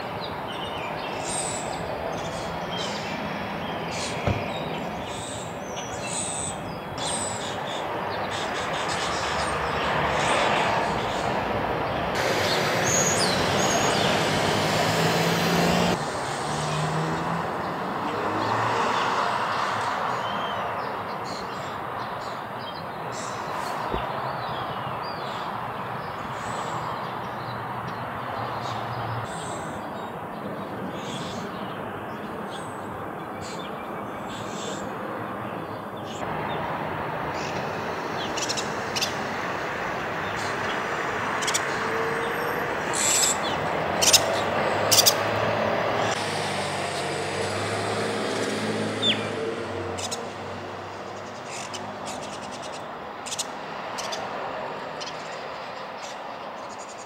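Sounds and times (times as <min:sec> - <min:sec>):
small birds chirping: 0:00.0 - 0:14.4, 0:15.7 - 0:46.2, 0:46.8 - 0:57.0
distant traffic hum: 0:00.0 - 0:57.0.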